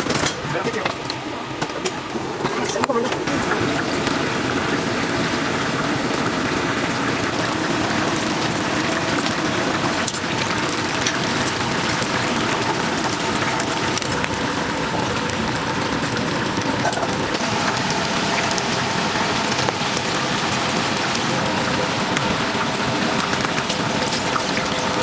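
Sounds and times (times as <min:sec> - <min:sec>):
oil sizzling and bubbling: 0:01.0 - 0:25.0.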